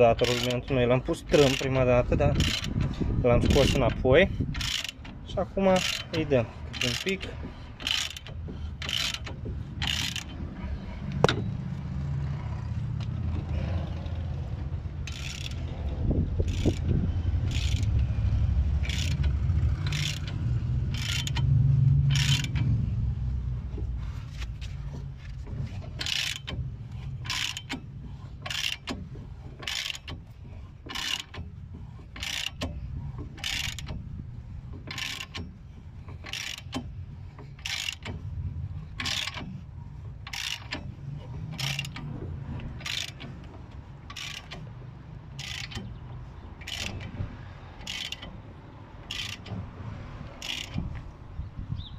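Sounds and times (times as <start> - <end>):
ratchet wrench clicking: 0.0 - 11.5, 14.8 - 51.2.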